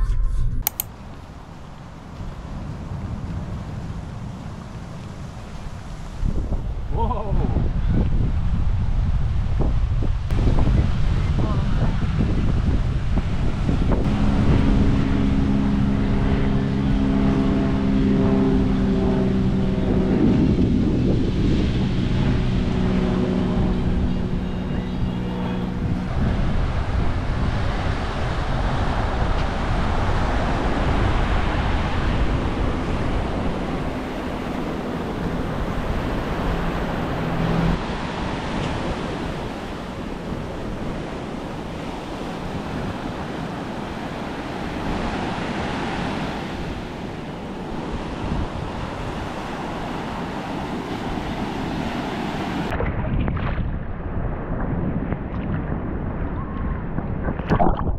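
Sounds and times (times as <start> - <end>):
airplane engine droning: 0.0 - 52.8
wind on microphone: 0.0 - 57.9
surf washing onto beach: 1.0 - 54.1.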